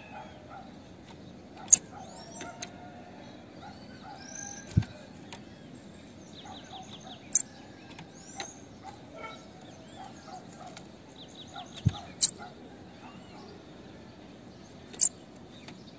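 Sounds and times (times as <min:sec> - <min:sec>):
bird chirping: 0:00.1 - 0:02.6, 0:03.6 - 0:15.9.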